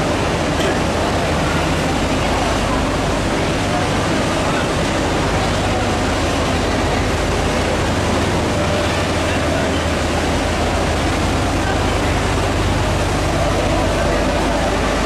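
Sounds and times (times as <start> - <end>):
train running noise: 0.0 - 15.0.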